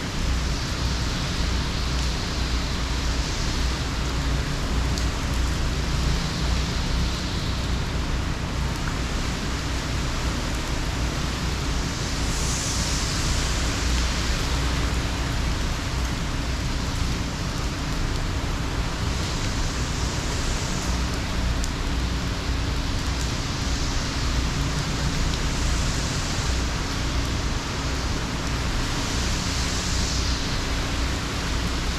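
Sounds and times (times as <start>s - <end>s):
heavy rain and wind: 0.0s - 31.9s.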